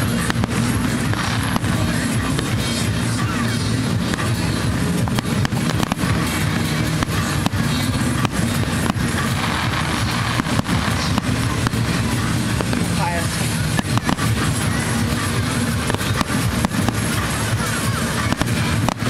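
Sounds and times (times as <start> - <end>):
background music: 0.0 - 19.0
fireworks cracking and popping: 0.0 - 19.0.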